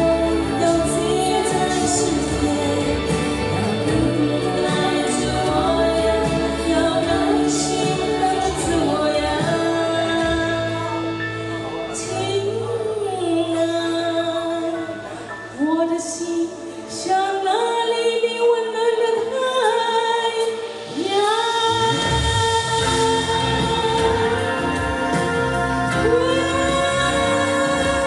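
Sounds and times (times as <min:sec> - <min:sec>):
song with long held notes: 0:00.0 - 0:28.0.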